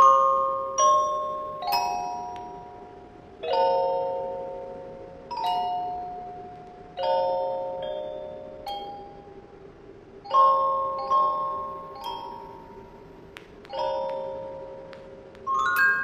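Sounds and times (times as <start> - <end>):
music box melody: 0.0 - 9.4, 10.2 - 16.0.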